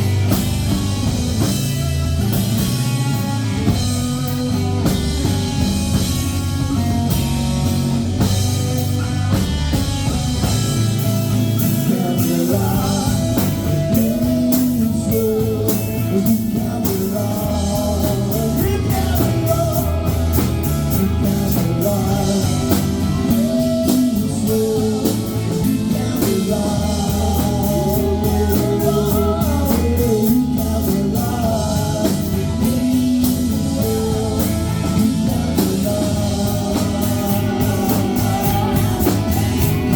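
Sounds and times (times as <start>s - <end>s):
rock band playing: 0.0s - 39.9s
person singing: 3.6s - 9.4s, 11.5s - 39.9s.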